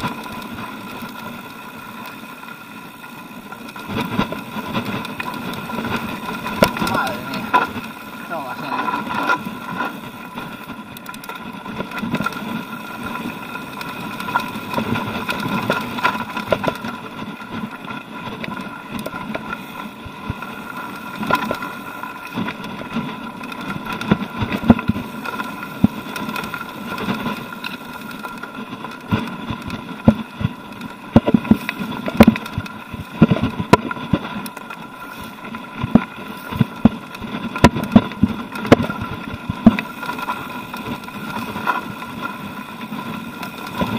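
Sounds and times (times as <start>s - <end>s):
bike knocking and rattling: 0.0s - 43.9s.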